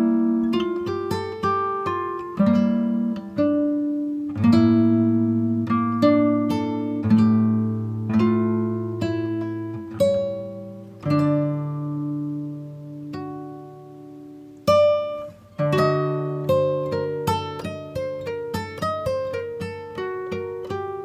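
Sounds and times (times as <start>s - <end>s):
acoustic guitar plucking: 0.0s - 21.0s.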